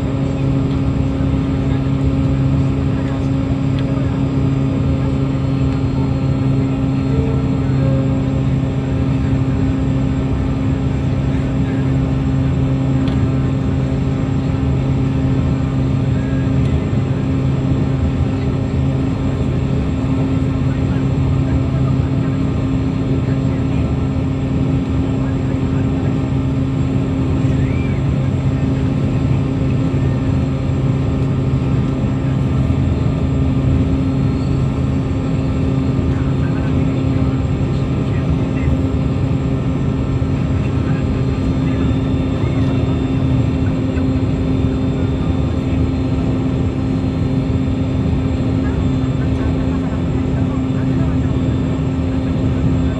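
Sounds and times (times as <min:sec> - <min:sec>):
gas-turbine boat engine drone: 0:00.0 - 0:52.9.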